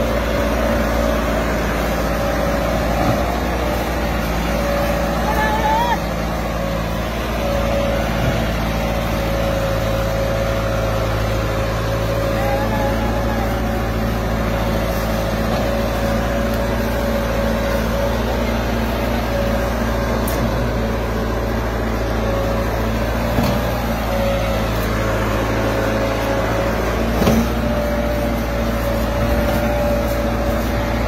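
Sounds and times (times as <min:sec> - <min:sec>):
steady whine: 0:00.0 - 0:31.0
tractor diesel engine under load: 0:00.0 - 0:31.0.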